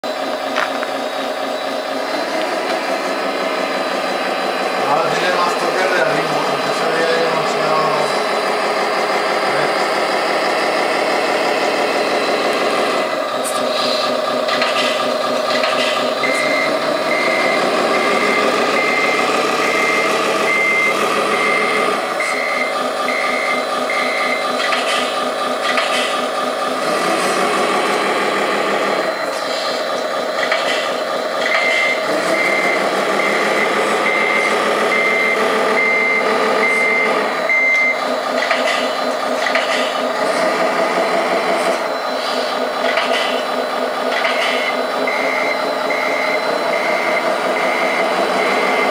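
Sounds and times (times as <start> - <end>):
reversing beeper: 0.0 - 48.9
simulated diesel engine: 0.0 - 48.9.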